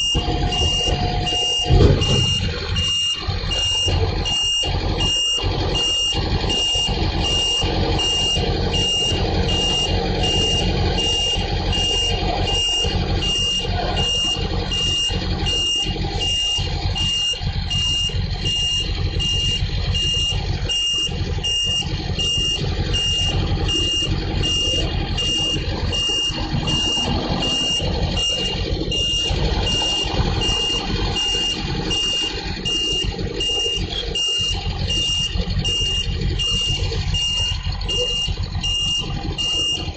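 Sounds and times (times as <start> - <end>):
reversing alarm beeping: 0.0 - 39.9
truck engine running: 0.0 - 39.9.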